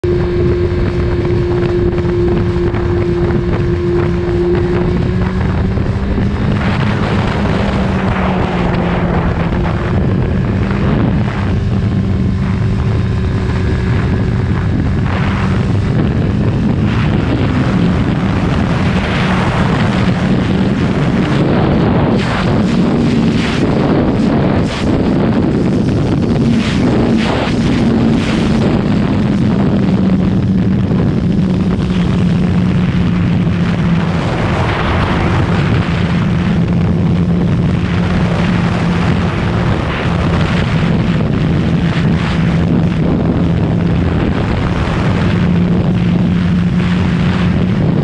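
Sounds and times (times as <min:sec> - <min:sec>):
motorcycle engine running: 0:00.0 - 0:48.0
wind buffeting microphone: 0:00.0 - 0:48.0.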